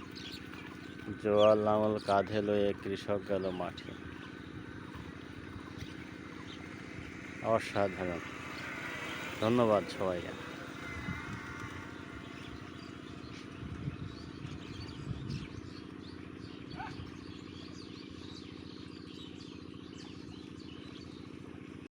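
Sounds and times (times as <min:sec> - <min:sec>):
small birds chirping and twittering: 0:00.0 - 0:21.8
low motor hum: 0:00.0 - 0:21.9.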